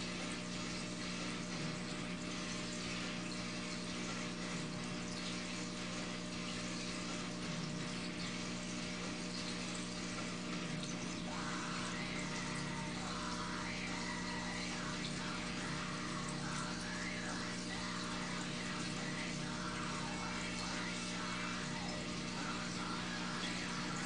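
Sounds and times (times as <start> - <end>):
water pump humming: 0.0 - 24.0.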